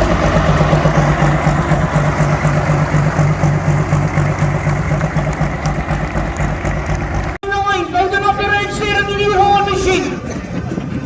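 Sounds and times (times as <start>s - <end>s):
tractor engine pulsing: 0.0s - 11.0s.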